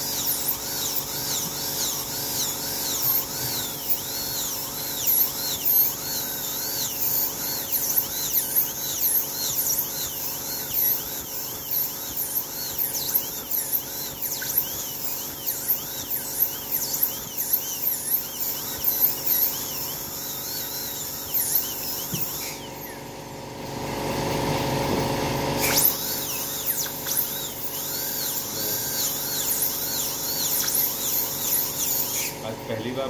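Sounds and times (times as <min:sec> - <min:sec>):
dental drill whining: 0:00.0 - 0:33.0.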